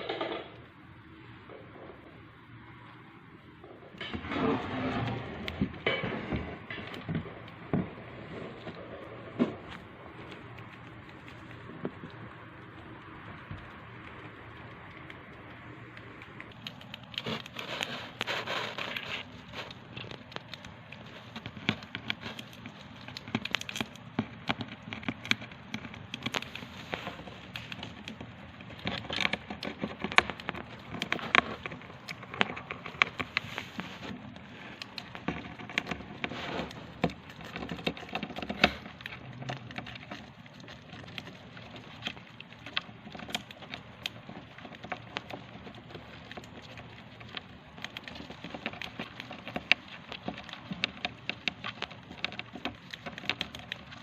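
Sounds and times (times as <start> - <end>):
hamster nibbling seeds: 0.0 - 54.0.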